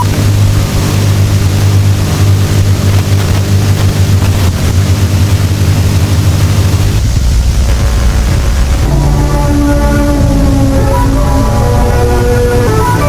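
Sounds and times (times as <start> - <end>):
low-pitched drone: 0.0 - 13.0.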